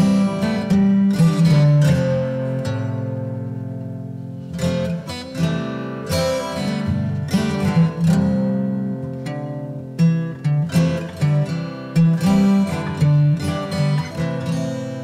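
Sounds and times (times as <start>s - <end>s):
plucked string notes and chords: 0.0s - 15.0s.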